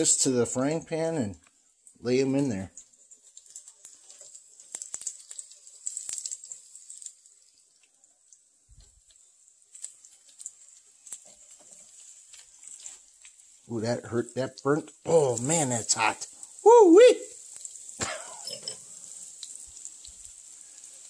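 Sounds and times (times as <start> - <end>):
onions sizzling in a frying pan: 0.0 - 21.0.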